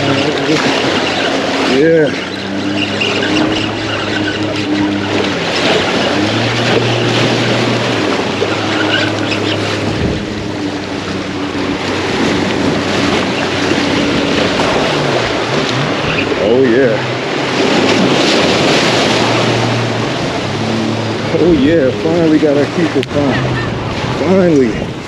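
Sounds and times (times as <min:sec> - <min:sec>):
boat engine humming: 0:00.0 - 0:25.0
waves breaking: 0:00.0 - 0:25.0
wind on microphone: 0:00.0 - 0:25.0.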